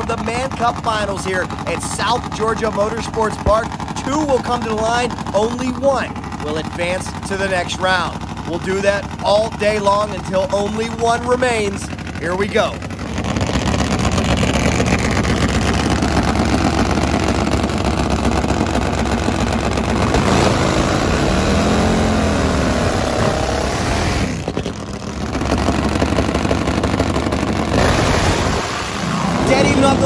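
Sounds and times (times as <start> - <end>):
drag motorcycle engines revving: 0.0 - 30.0.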